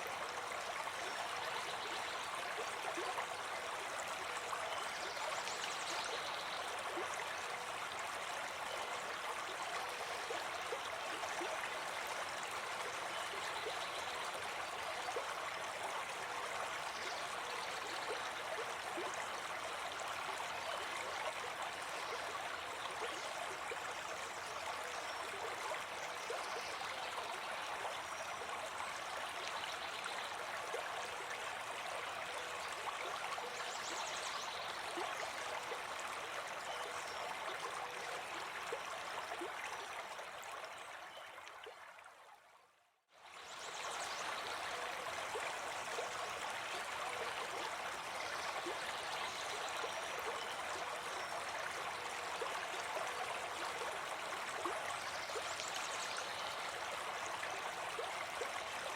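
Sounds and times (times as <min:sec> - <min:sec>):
brook babbling: 0:00.0 - 0:58.9.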